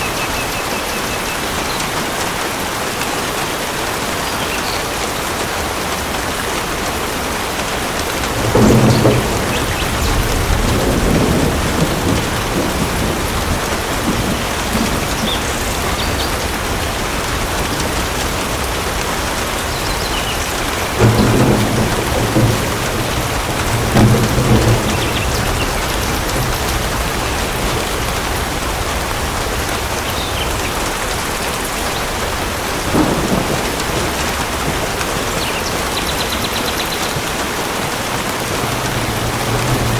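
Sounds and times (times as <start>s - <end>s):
steady rain falling: 0.0s - 39.9s
thunder rumbling: 5.2s - 39.9s.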